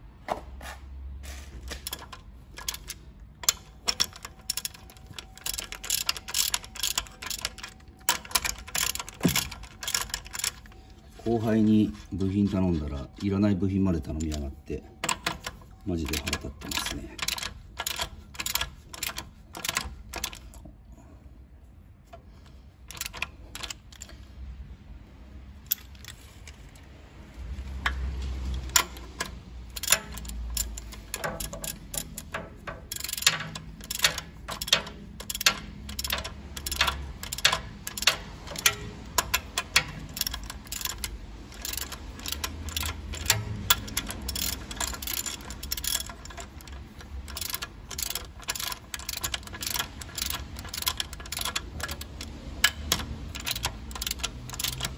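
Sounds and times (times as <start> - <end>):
socket wrench clicking: 1.8 - 10.8, 14.1 - 20.7, 22.9 - 24.2, 27.6 - 54.9.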